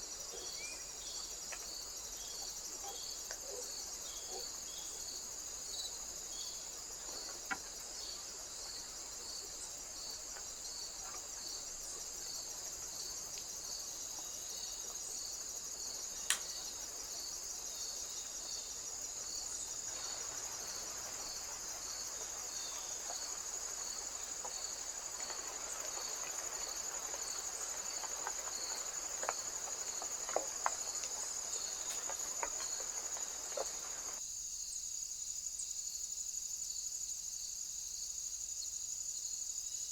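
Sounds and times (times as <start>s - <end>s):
insect trill: 0.0s - 39.9s
pulsing insect chirp: 0.0s - 39.9s.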